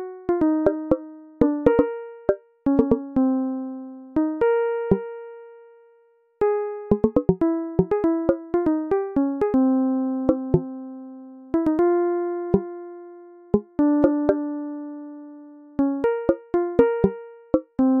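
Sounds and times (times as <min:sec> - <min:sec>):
electronic keyboard melody: 0:00.0 - 0:05.8, 0:06.4 - 0:18.0.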